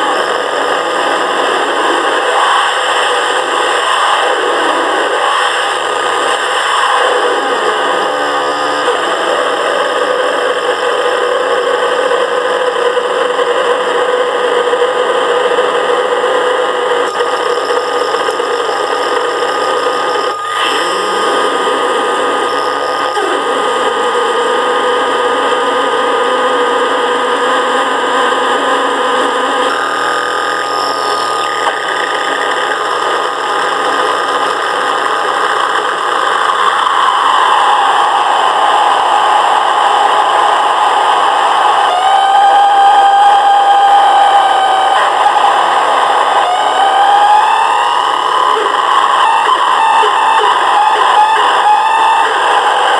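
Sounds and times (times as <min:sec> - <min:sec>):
steady drone tone: 0:00.0 - 0:14.1, 0:17.0 - 0:52.9
electronic noise music: 0:00.0 - 0:52.9.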